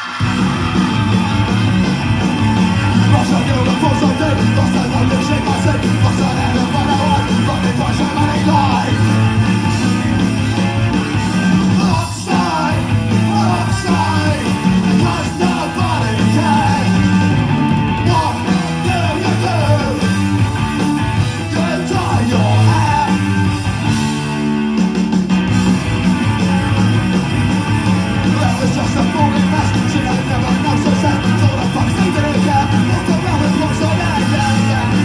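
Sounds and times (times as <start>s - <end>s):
punk rock song: 0.0s - 35.0s.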